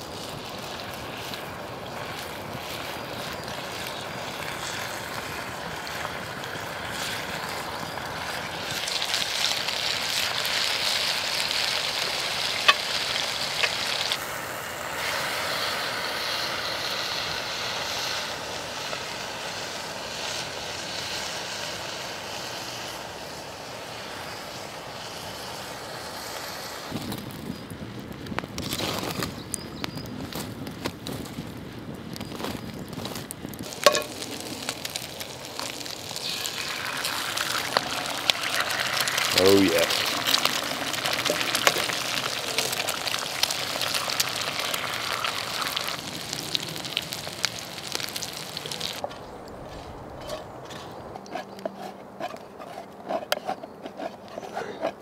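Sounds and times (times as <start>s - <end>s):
sausages and bacon sizzling: 0.0s - 50.6s.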